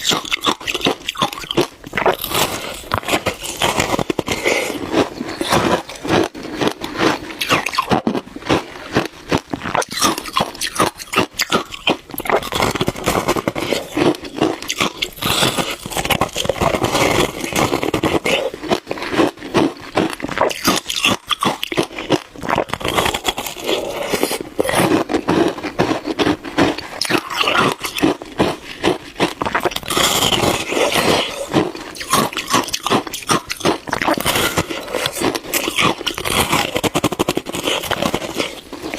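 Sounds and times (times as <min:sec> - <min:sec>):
chewing shaved ice: 0:00.0 - 0:38.9.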